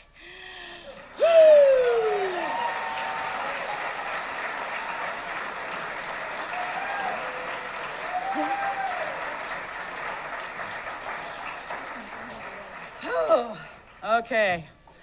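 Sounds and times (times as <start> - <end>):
audience applauding: 0.8 - 14.1.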